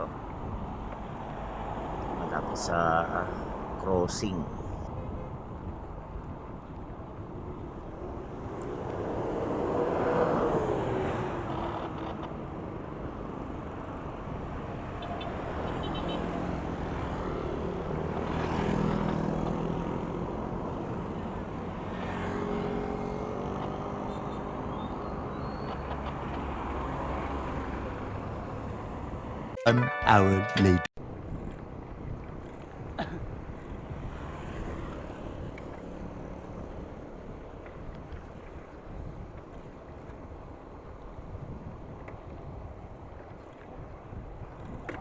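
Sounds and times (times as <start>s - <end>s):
steady road noise: 0.0s - 45.0s
vehicles passing: 0.0s - 45.0s.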